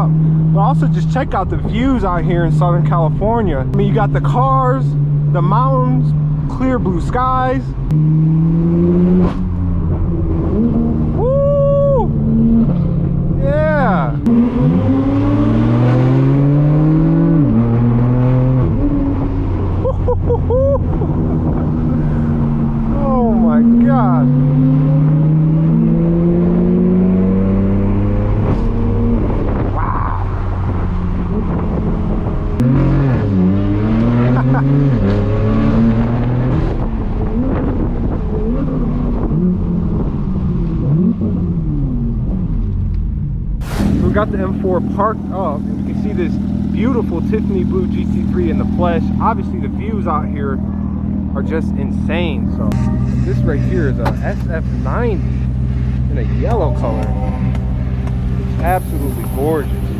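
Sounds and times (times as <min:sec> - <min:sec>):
car engine revving under load: 0:00.0 - 0:11.4, 0:12.0 - 0:59.9
deep exhaust rumble: 0:00.0 - 0:59.9.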